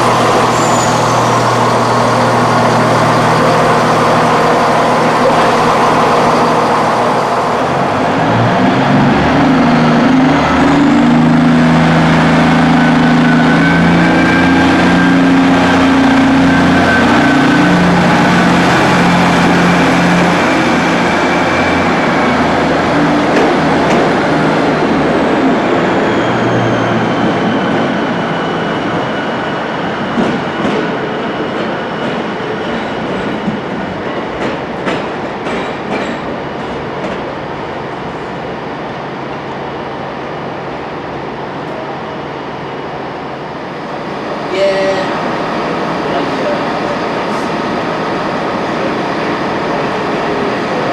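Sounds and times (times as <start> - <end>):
diesel train engine: 0.0 - 50.9.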